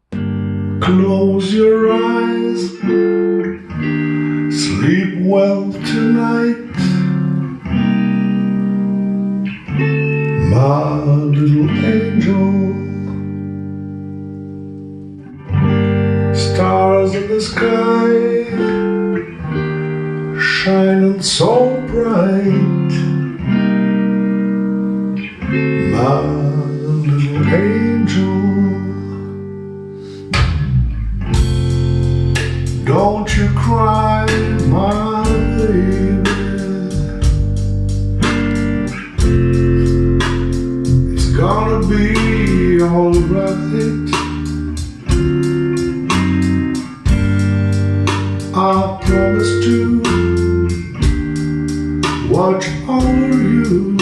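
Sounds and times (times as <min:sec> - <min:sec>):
slow guitar lullaby: 0:00.0 - 0:54.0.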